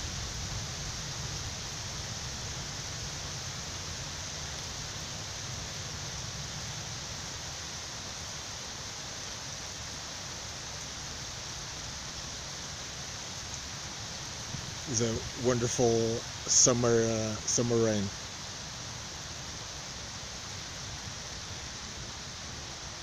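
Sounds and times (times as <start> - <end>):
rain falling on grass: 0.0 - 23.0.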